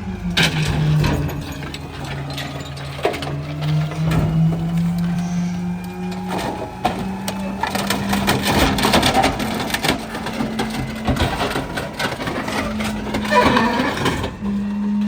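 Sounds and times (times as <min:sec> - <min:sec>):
truck engine hum: 0:00.0 - 0:15.0
packer blade crushing trash: 0:00.3 - 0:15.0
items cracking and snapping: 0:00.4 - 0:14.4.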